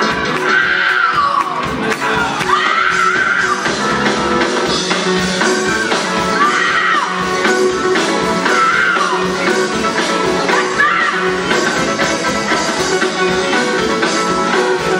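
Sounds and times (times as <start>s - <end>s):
gospel band with drums: 0.0s - 14.9s.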